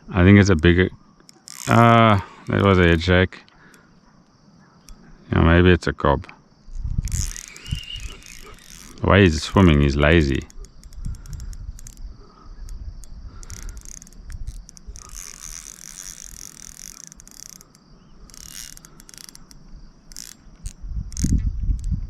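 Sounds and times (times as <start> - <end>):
crickets chirring: 0.0 - 22.0
fishing reel clicking: 1.2 - 3.9, 6.7 - 22.0.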